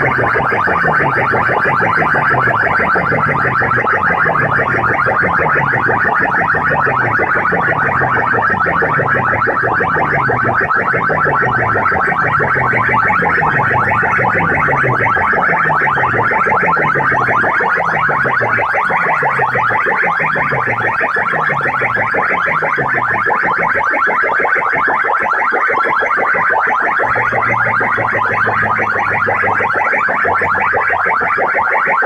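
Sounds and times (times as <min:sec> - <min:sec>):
distorted electronic dance track: 0:00.0 - 0:32.0.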